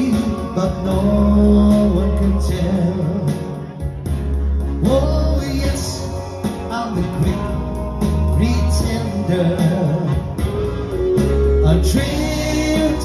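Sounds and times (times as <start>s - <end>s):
man singing into a microphone: 0.0s - 4.0s, 4.7s - 13.0s
backing track with bass line: 0.0s - 13.0s.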